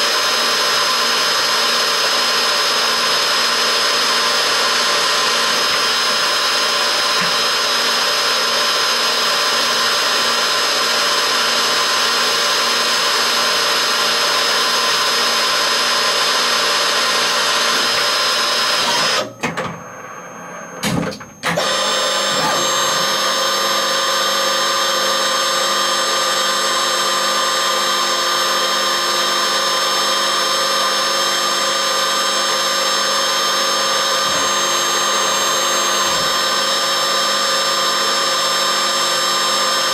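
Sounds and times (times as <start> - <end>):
cnc machine whine: 0.0 - 39.9.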